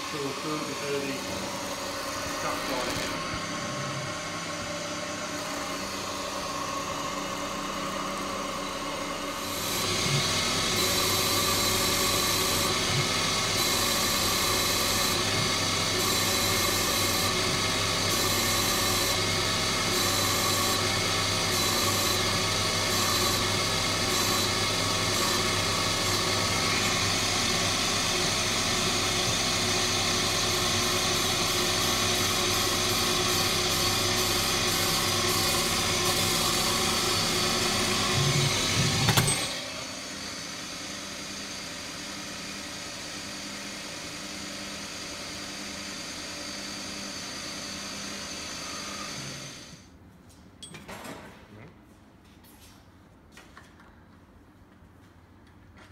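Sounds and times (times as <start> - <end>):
lathe machining hum: 0.0 - 50.0.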